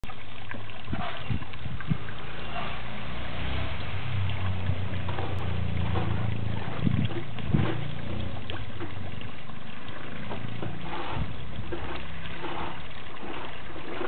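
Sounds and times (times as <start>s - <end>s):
water ticking: 0.0s - 14.0s.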